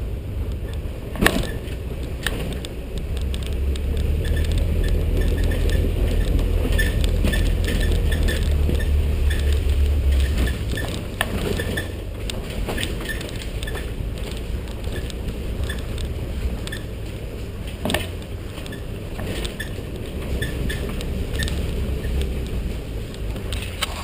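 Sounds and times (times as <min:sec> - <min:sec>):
engine running at low crawl: 0:00.0 - 0:24.0
tyres and body knocking: 0:01.0 - 0:23.7.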